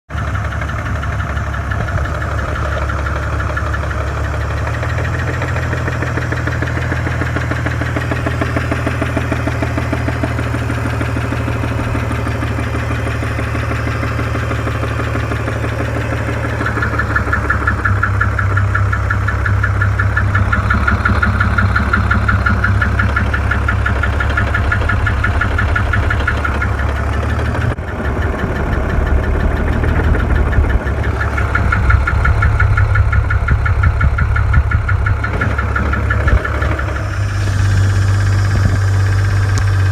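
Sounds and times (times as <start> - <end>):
car engine running: 0.1 - 39.9
fast rhythmic engine knocking: 0.1 - 39.9.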